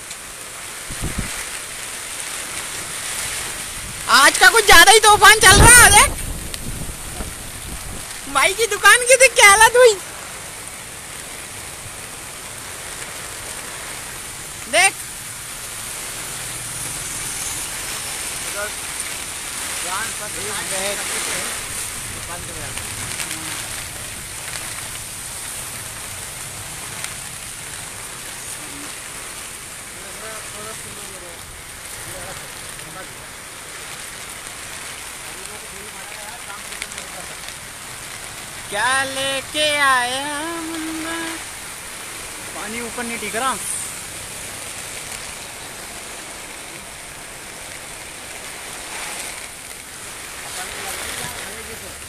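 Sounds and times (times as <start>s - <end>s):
heavy rain on road: 0.0s - 52.0s.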